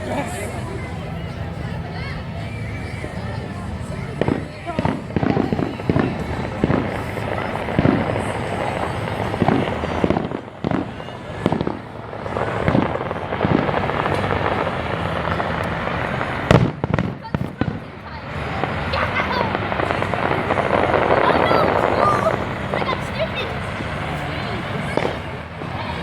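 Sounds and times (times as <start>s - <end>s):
fireworks crackling: 0.0s - 26.0s
fireworks bangs: 3.3s - 26.0s.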